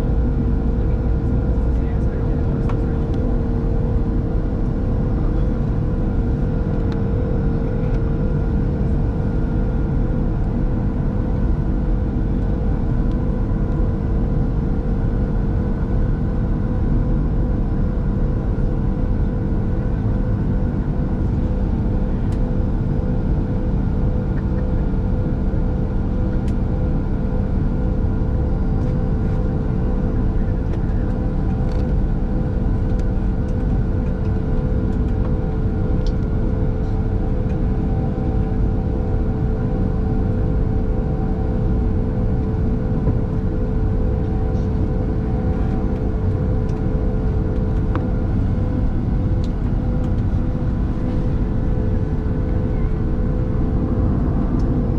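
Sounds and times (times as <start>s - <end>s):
airplane cabin drone: 0.0s - 54.9s.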